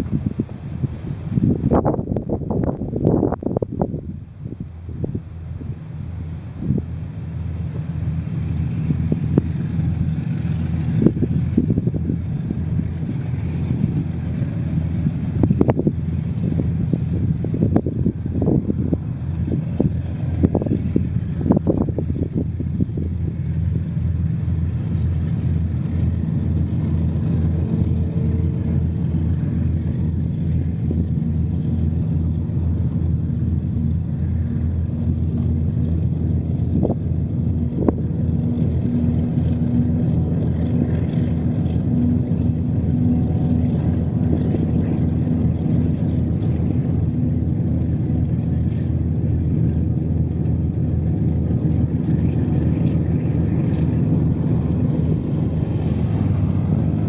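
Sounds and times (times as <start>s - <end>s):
locomotive engines droning: 0.0s - 57.0s
train wagons rumbling on track: 8.6s - 48.3s, 49.0s - 57.0s.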